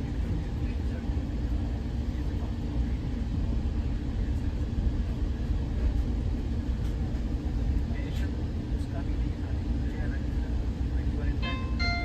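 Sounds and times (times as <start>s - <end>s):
train car low rumble: 0.0s - 12.0s.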